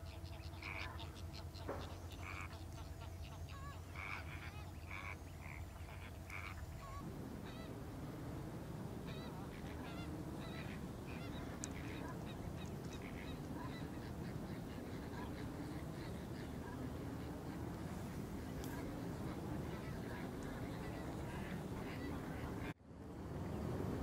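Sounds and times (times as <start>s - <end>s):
flamingos honking: 0.0s - 22.8s
steady low rumble: 1.0s - 24.0s.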